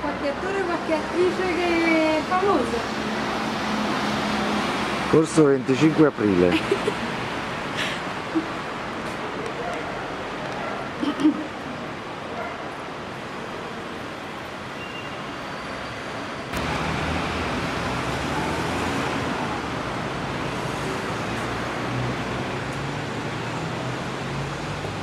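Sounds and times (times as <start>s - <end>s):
passing cars: 0.0s - 25.0s.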